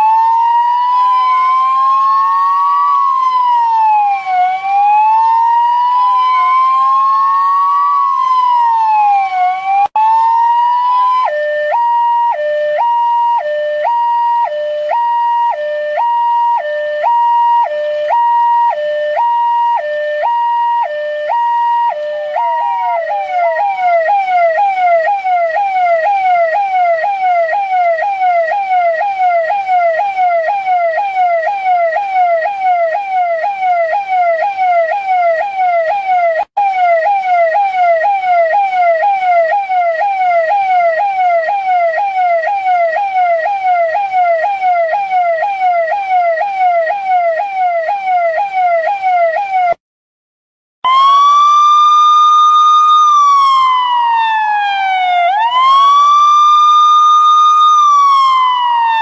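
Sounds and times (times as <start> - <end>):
police car siren: 0.0 - 49.8, 50.8 - 59.0.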